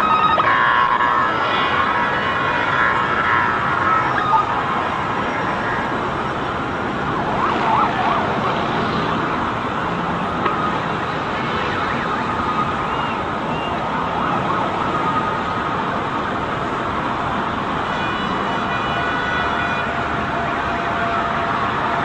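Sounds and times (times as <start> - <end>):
city traffic noise: 0.0 - 22.0
emergency sirens wailing: 0.0 - 22.0.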